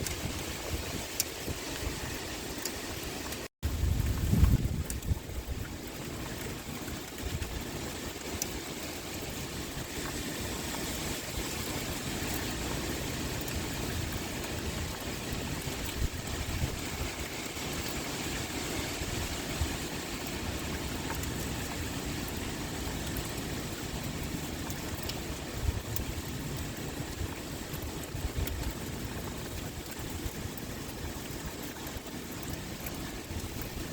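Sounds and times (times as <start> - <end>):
wind blowing: 0.0 - 31.6
heavy rain pouring: 0.0 - 33.9.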